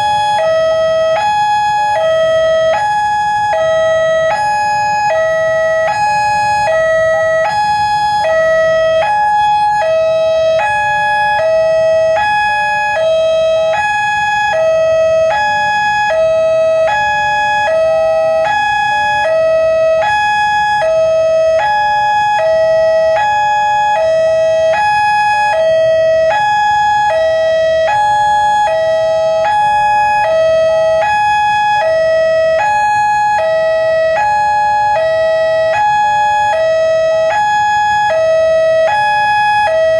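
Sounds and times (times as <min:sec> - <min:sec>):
road traffic rumble: 0:00.0 - 0:39.9
two-tone crossing alarm: 0:00.0 - 0:39.9.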